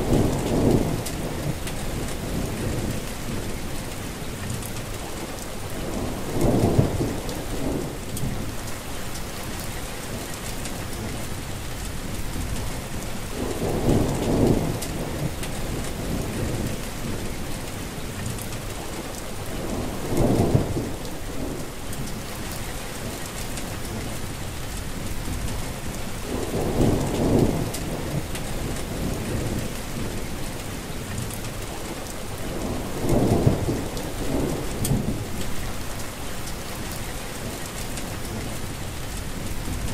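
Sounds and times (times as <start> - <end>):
low rumble of thunder: 0.0 - 39.9
steady rain falling: 0.0 - 39.9.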